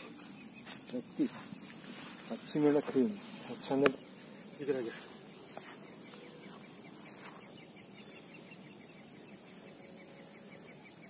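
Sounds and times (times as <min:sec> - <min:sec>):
insects droning high-pitched: 0:00.0 - 0:11.0.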